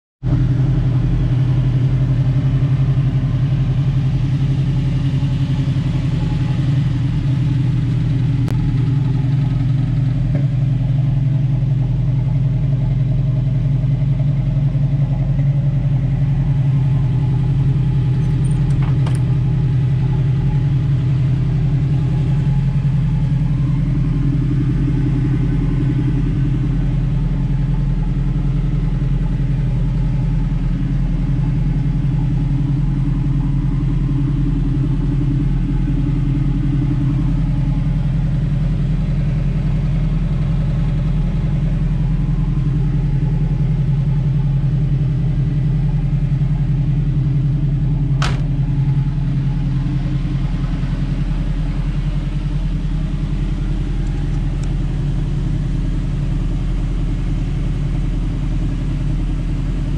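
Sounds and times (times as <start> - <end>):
car engine idling: 0.2 - 59.9.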